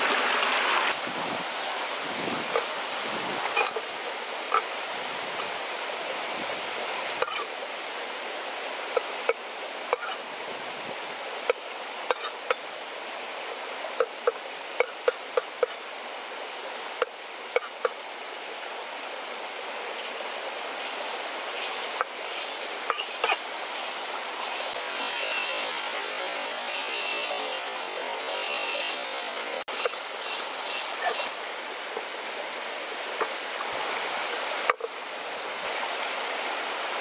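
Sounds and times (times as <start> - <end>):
stream running: 0.0 - 37.0.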